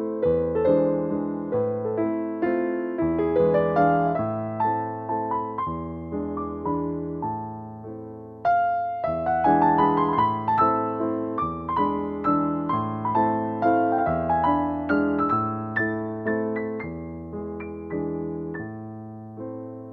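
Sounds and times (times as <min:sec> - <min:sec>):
gentle piano melody: 0:00.0 - 0:19.9.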